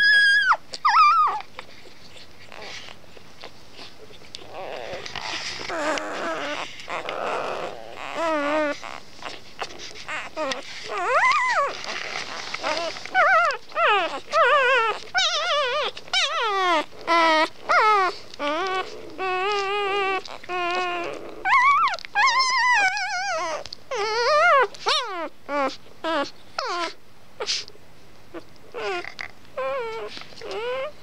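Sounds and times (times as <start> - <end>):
puppy whining: 0.0 - 31.0.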